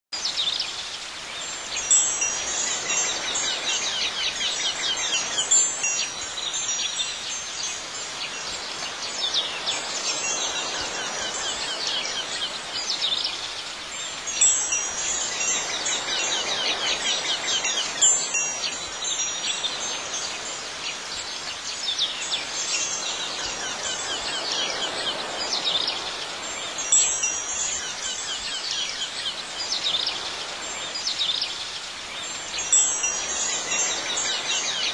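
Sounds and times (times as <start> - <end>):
garden ambience: 0.1 - 34.9
wind chimes ringing: 1.4 - 31.5, 32.2 - 34.9.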